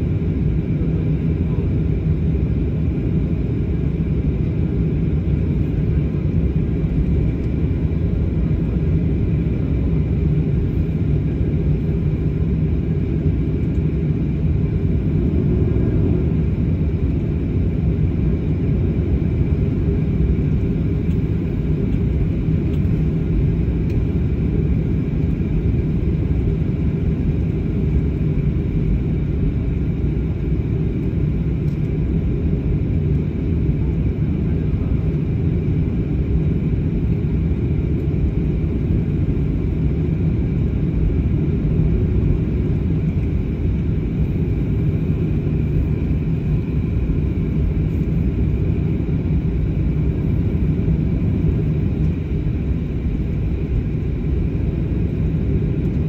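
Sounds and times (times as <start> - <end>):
faint high hum: 0.0 - 56.0
jet engines at low power: 0.0 - 56.0
low rumble of rolling aircraft: 0.0 - 56.0.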